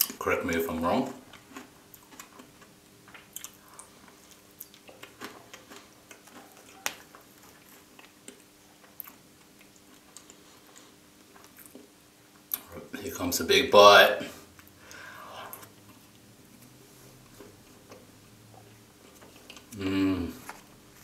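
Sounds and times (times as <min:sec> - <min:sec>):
chewing and wet mouth sounds: 0:00.0 - 0:00.2, 0:01.0 - 0:12.8, 0:14.5 - 0:21.0.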